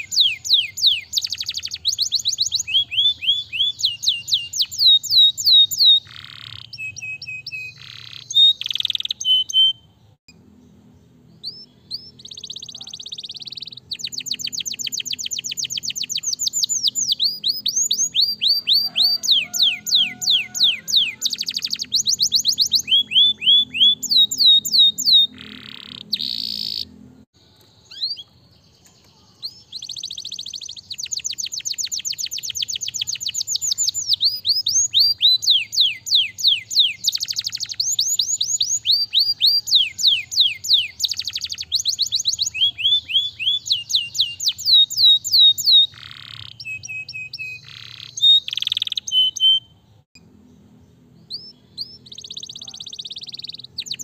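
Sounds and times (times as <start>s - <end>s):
canary singing in trills: 0.0s - 54.0s.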